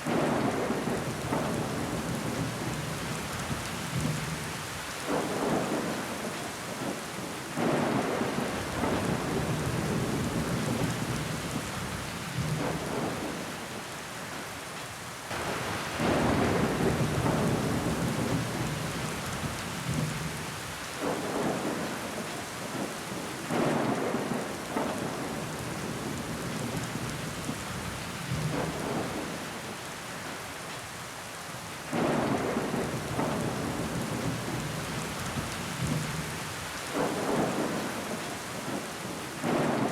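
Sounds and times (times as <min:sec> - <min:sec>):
heavy rain on window glass: 0:00.0 - 0:39.9.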